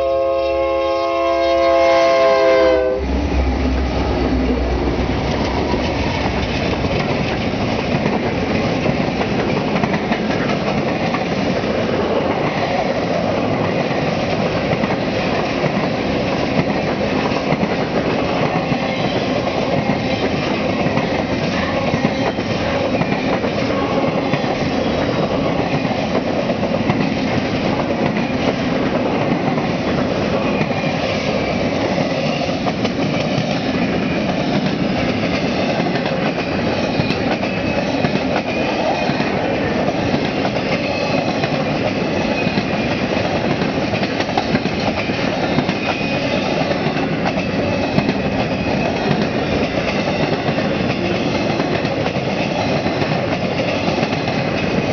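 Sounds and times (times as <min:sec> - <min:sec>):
freight train wheels rolling: 0:00.0 - 0:54.9
light clicks of train wheels: 0:05.2 - 0:54.9.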